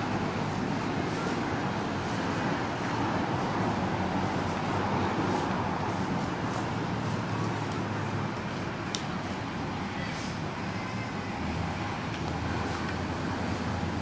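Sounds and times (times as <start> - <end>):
outdoor hum and hiss: 0.0 - 14.0.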